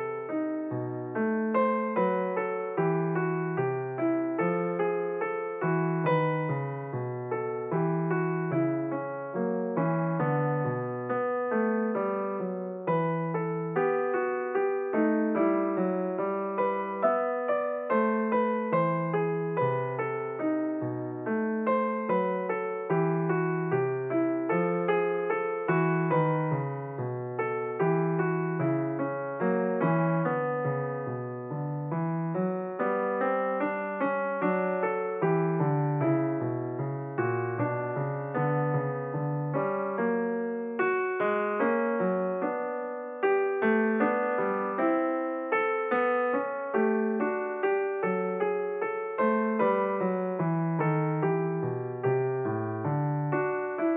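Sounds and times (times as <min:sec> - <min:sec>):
solo piano music: 0:00.0 - 0:53.9.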